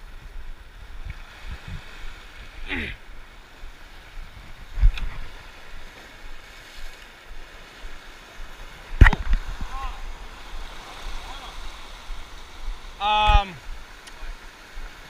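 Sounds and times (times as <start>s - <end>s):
wind buffeting microphone: 0.0s - 6.5s, 7.3s - 14.0s
waves breaking against rocks: 0.8s - 15.0s.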